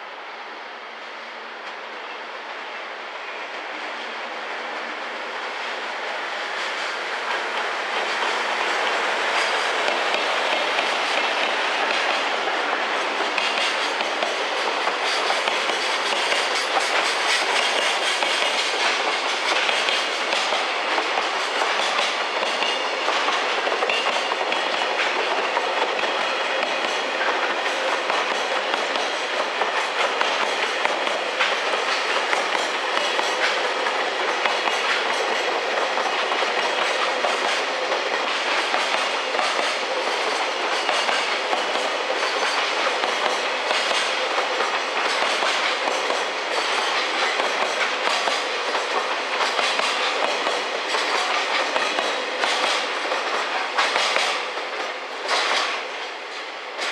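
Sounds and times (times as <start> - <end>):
train wheels rolling on rails: 0.0 - 56.9
wheels clacking over rail joints: 7.2 - 56.9.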